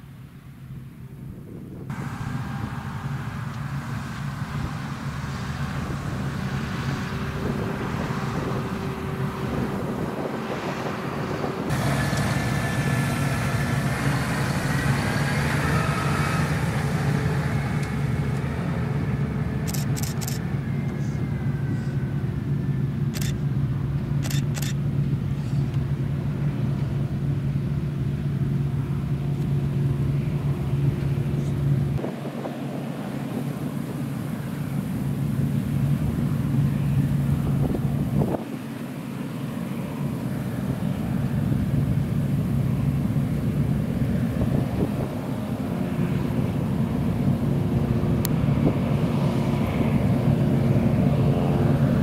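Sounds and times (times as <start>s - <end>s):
combine harvester engine drone: 0.0s - 52.0s.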